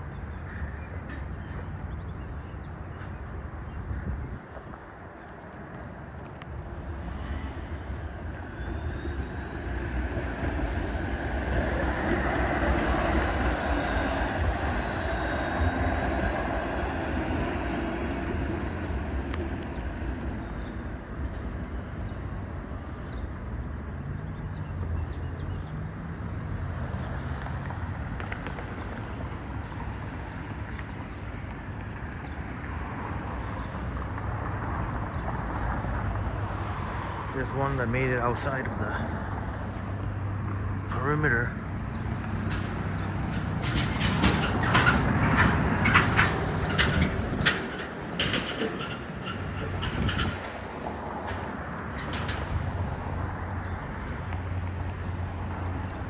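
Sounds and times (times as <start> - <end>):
traffic rumble: 0.0 - 56.0
vehicle passing: 6.6 - 22.5, 23.9 - 56.0.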